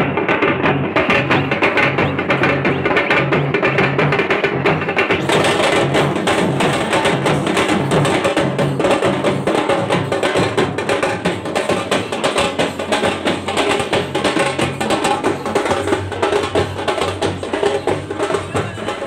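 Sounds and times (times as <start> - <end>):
fast dense drumming: 0.0 - 19.0
loud festival music: 0.0 - 19.0.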